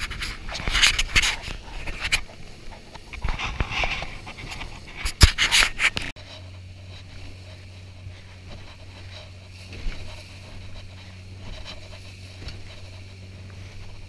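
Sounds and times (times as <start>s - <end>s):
outboard motor drone: 0.0s - 14.0s
water noise: 0.0s - 14.0s
waves slapping boat hull: 0.0s - 14.0s.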